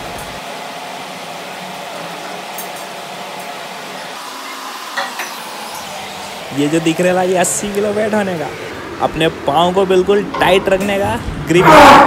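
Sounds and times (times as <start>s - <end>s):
steady hiss of fan: 0.0s - 12.0s.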